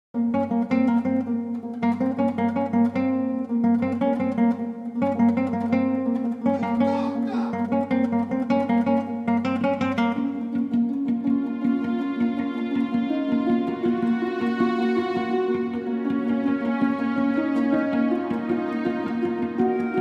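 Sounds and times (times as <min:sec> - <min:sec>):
acoustic guitar strumming: 0:00.2 - 0:20.0.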